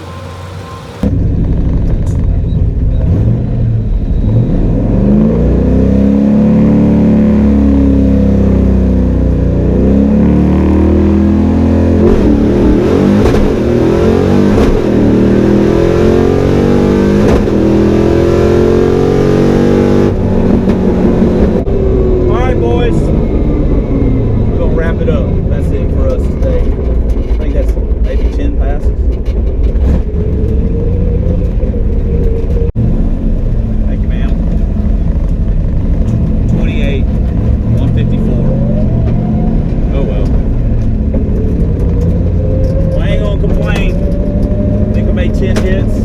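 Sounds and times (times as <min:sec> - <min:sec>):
car engine revving through gears: 0:03.0 - 0:46.0.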